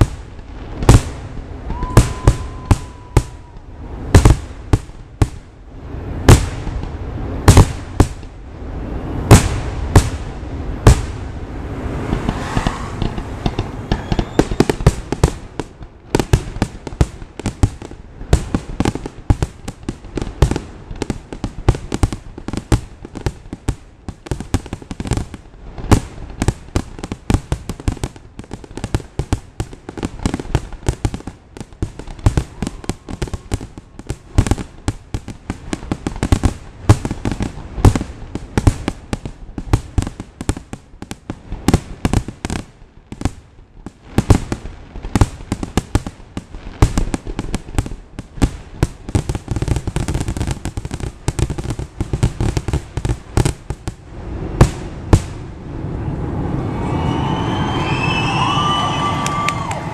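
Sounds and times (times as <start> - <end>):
fireworks booming: 0.0 - 55.6
fireworks crackle: 0.0 - 55.6, 57.6 - 59.9.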